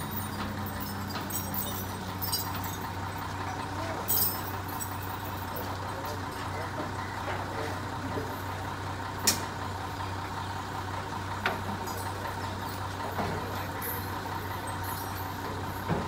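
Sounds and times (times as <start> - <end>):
lorry engine idling: 0.0 - 16.0.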